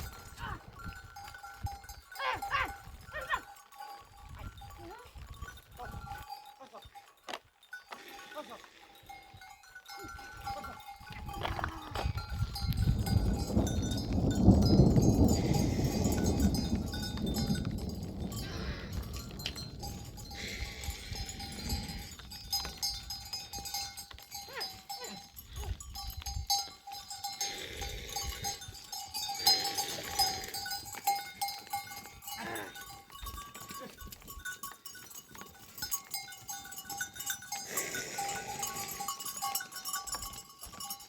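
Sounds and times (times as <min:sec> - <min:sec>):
livestock bells clinking: 0:00.0 - 0:41.0.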